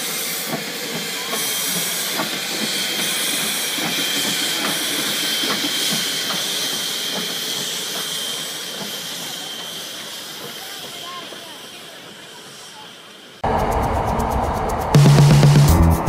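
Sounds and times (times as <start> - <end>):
faint locomotive clicks: 0.0 - 15.0
steam hissing: 0.0 - 16.0.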